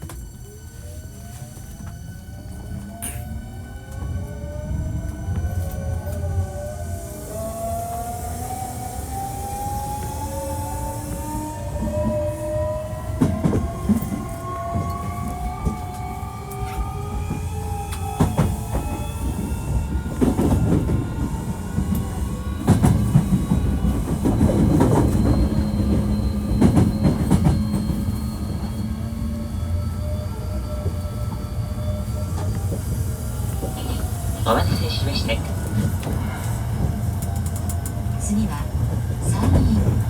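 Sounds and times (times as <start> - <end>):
train traction motor whine: 0.0 - 40.0
train wheel rumble: 0.0 - 40.0.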